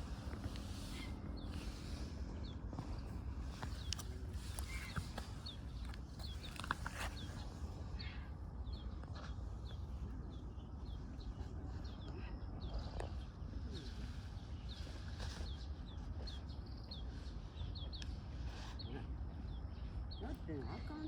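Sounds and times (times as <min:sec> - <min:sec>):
low background rumble: 0:00.0 - 0:21.0
small bird chirping: 0:00.0 - 0:21.0.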